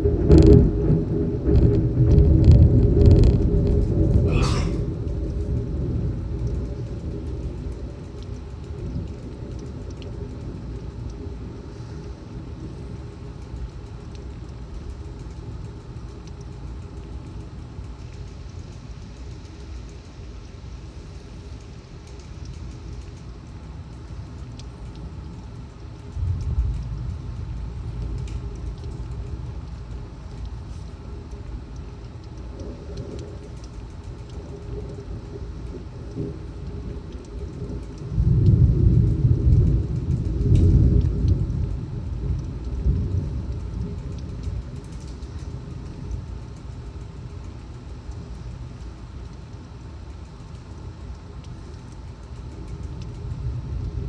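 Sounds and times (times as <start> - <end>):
thunder rumbling: 0.0 - 16.2, 16.9 - 49.8, 50.6 - 54.0
torrential rain: 0.0 - 54.0.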